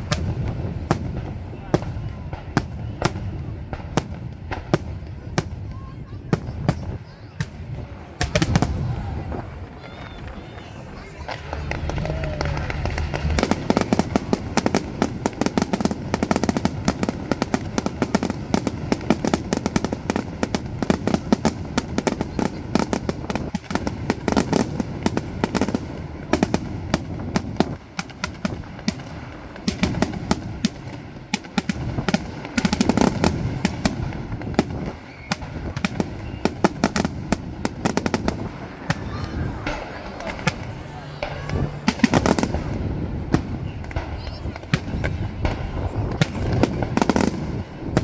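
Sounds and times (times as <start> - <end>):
fireworks crackling bangs: 0.0 - 48.0.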